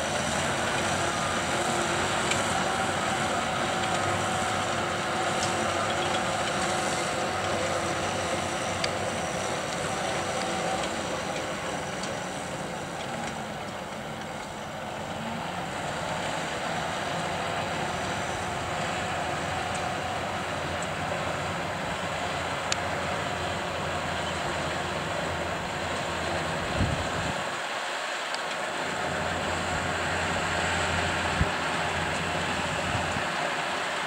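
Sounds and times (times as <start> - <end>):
round baler running: 0.0 - 34.0
tractor diesel engine: 0.0 - 34.0.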